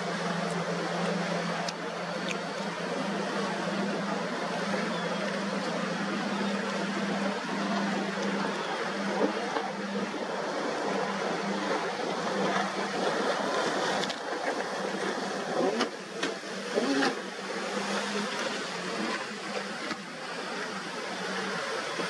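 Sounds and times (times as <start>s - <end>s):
motorboat engine drone: 0.0s - 22.0s
steady rushing noise: 0.0s - 22.0s.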